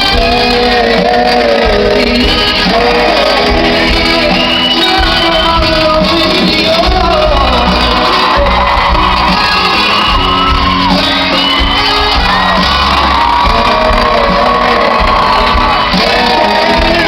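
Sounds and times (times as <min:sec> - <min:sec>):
crowd shouting and whooping: 0:00.0 - 0:17.0
crowd singing along: 0:00.0 - 0:17.0
live band music: 0:00.0 - 0:17.0.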